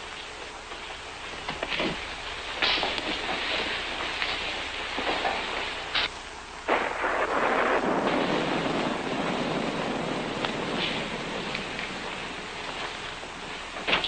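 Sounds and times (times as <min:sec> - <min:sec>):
steady rain: 0:00.0 - 0:14.0
thunder crack and rumble: 0:01.8 - 0:14.0.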